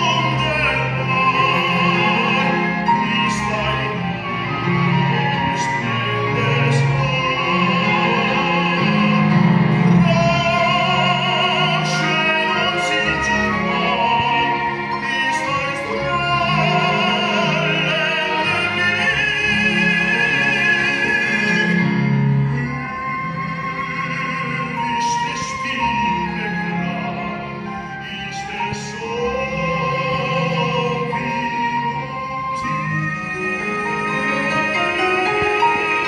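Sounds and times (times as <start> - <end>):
operatic singing: 0.0 - 36.0
orchestral accompaniment: 0.0 - 36.0.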